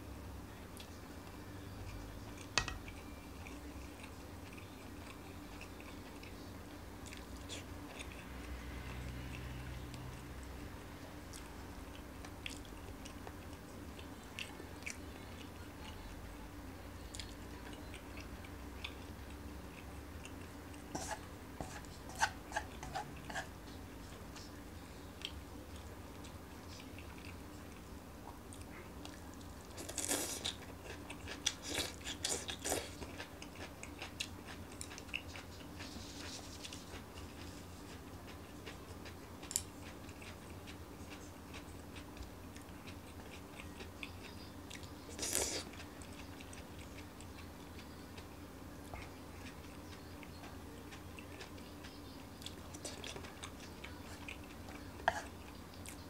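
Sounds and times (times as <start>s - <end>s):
person chewing food: 0.7s - 16.1s, 17.0s - 56.0s.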